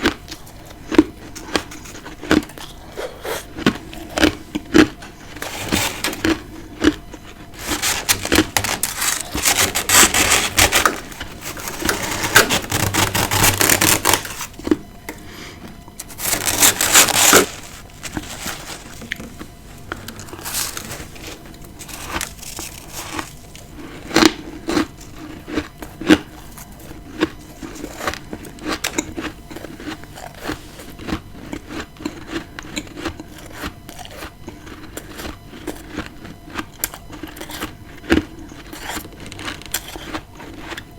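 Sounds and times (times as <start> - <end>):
chewing crunchy frost: 0.0 - 40.9.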